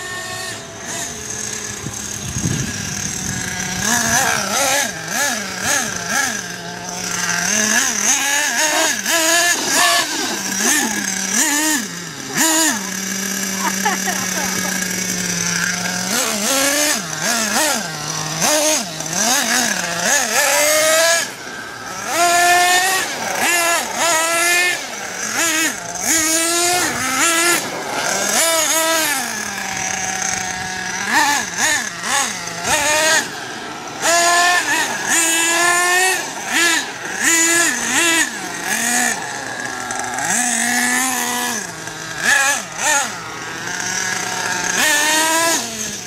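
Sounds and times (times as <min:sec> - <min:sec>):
toy car motor revving: 0:00.0 - 0:46.0.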